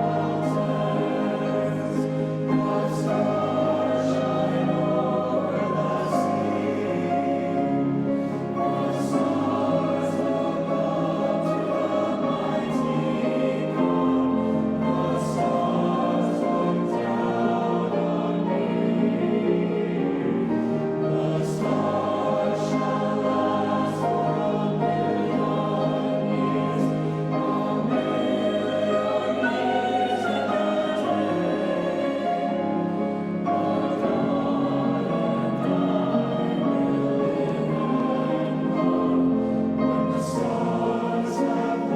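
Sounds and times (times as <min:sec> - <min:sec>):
youth choir singing: 0:00.0 - 0:41.9.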